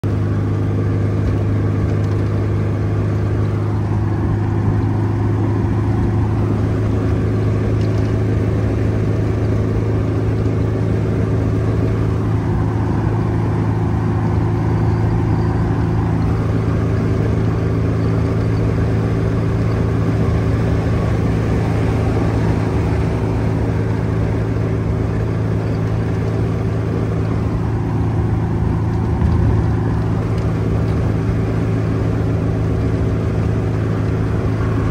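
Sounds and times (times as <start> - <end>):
buggy engine cruising: 0.0 - 34.9
road noise: 0.0 - 34.9.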